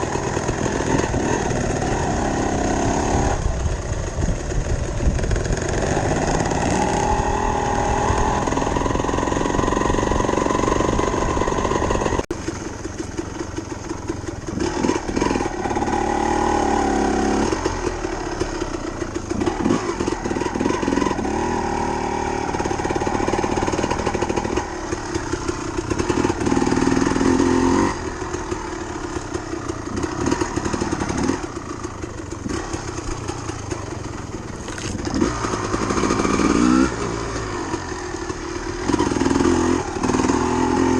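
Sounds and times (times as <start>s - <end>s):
dirt bike engine revving: 0.0s - 4.0s, 5.2s - 40.9s.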